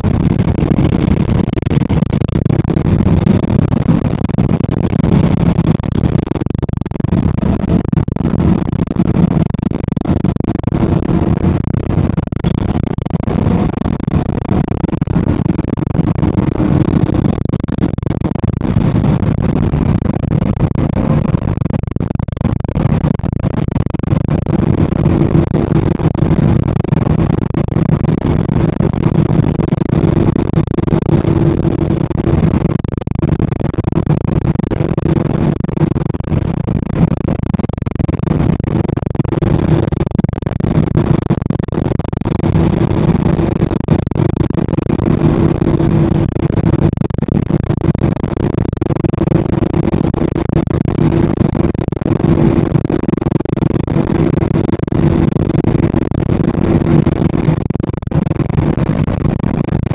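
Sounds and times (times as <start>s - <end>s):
hum: 0.0s - 59.9s.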